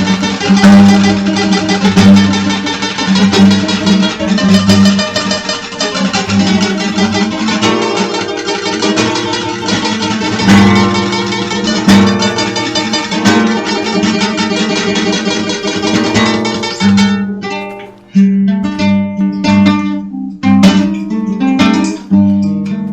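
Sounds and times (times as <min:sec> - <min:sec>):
folk acoustic guitar music: 0:00.0 - 0:22.9.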